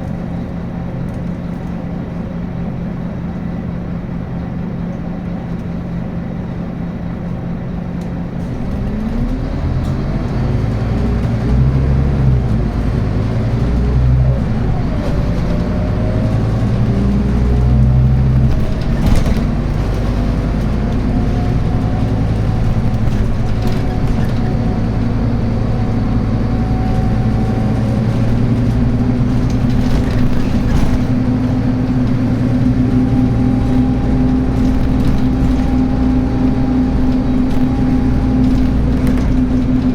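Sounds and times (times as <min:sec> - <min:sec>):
bus diesel engine pulling away: 0:00.0 - 0:39.9.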